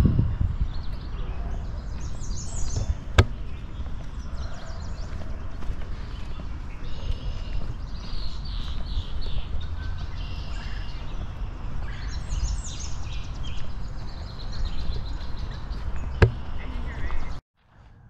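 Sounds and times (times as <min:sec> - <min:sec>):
birds chirping: 0:00.0 - 0:17.4
songbirds singing: 0:00.0 - 0:17.4.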